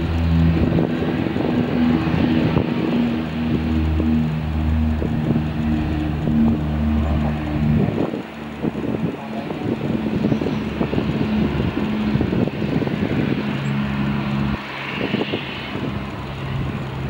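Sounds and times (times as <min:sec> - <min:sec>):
jet engines hum and hiss: 0:00.0 - 0:17.0
wind buffeting microphone: 0:00.0 - 0:17.0.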